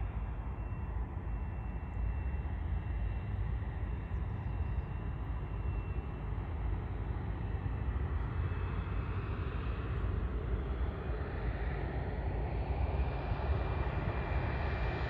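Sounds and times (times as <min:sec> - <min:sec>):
floatplane engine and propeller droning: 0:00.0 - 0:15.0.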